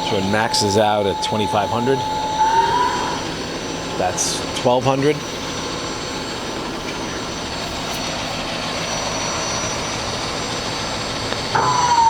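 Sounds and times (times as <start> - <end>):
lathe spindle whirring: 0.0 - 12.0.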